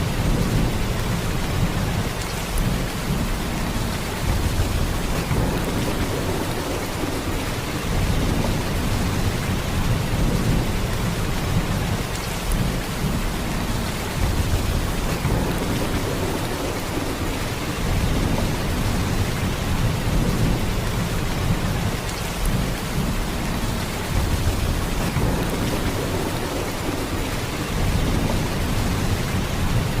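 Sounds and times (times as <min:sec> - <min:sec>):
heavy rain downpour: 0:00.0 - 0:30.0.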